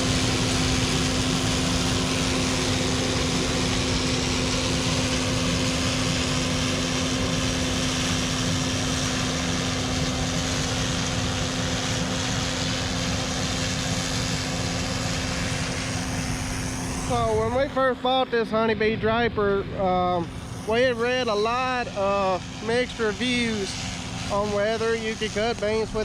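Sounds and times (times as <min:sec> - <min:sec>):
combine harvester engine drone: 0:00.0 - 0:26.0.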